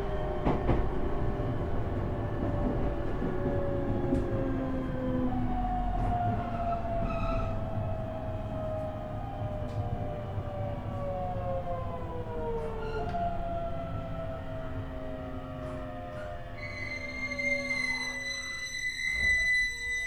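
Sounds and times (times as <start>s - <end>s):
electric train interior running noise: 0.0s - 20.0s.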